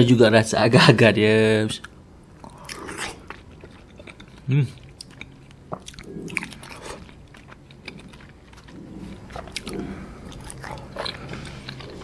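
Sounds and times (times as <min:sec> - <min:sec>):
biting and chewing jelly: 0:01.8 - 0:12.0.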